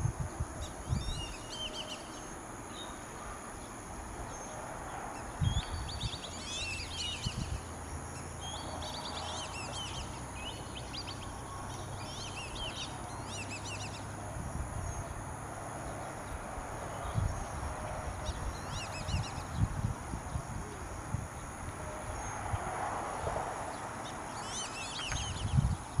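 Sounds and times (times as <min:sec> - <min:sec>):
steady outdoor hiss: 0:00.0 - 0:26.0
small birds chirping: 0:00.6 - 0:14.2, 0:14.8 - 0:21.6, 0:23.7 - 0:26.0.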